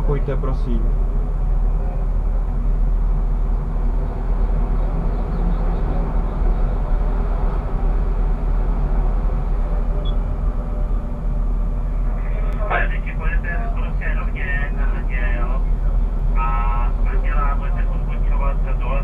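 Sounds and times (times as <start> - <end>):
tram cab rumble and hum: 0.0 - 19.0
tram passing: 0.0 - 19.0.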